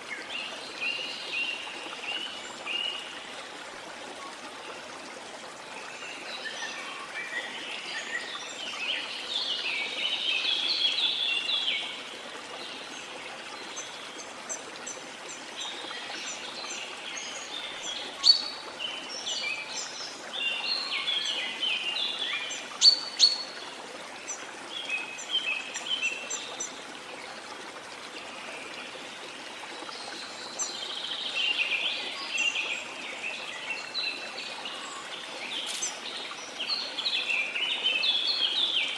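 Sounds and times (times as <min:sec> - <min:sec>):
small songbirds chirping: 0:05.6 - 0:26.8, 0:28.6 - 0:38.9.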